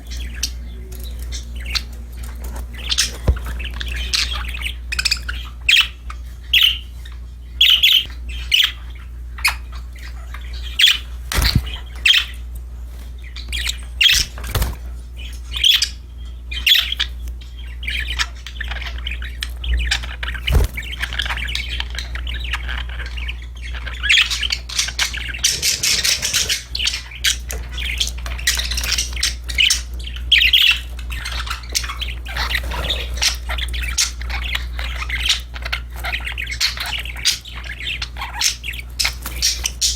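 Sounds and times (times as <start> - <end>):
budgerigars chirping and squawking: 0.0 - 39.9
steady low hum: 0.0 - 39.9.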